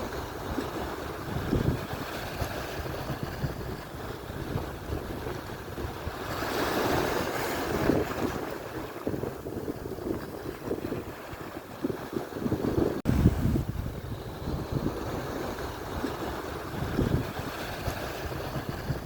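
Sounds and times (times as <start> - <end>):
surf washing in: 0.0 - 19.0
wind buffeting microphone: 0.0 - 19.0.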